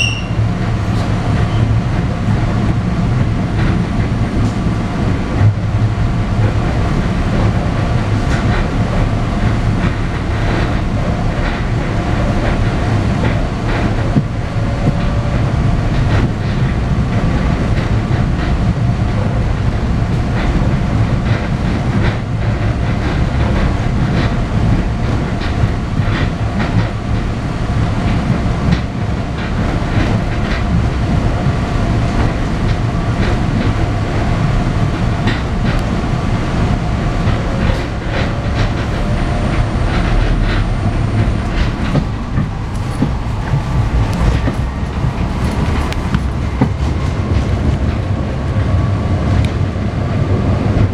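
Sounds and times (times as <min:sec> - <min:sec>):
train interior rumble: 0:00.0 - 0:50.9
wheels clicking over track: 0:06.4 - 0:50.9.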